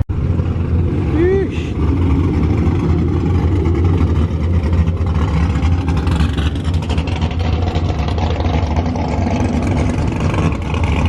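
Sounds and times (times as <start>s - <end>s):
car engine running: 0.1s - 11.0s.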